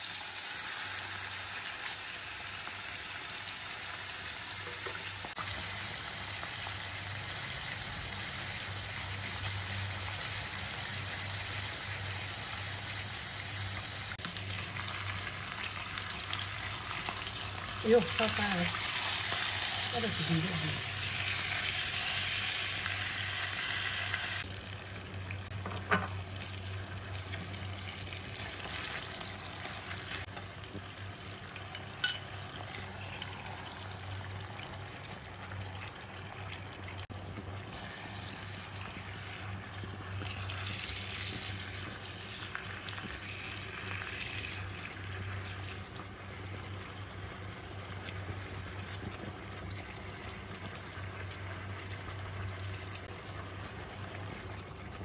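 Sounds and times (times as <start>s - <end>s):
meat sizzling in oil: 0.0s - 55.0s.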